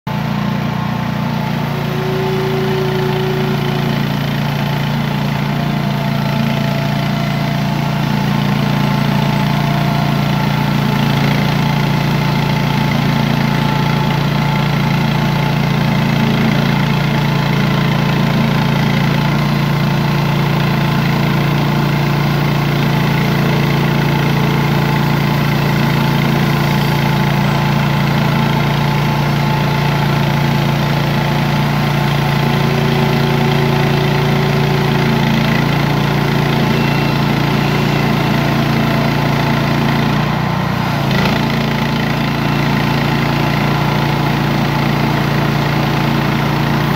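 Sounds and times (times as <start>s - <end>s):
small gasoline engine running: 0.1s - 46.9s
band blade sawing log: 1.4s - 19.1s, 19.8s - 46.9s.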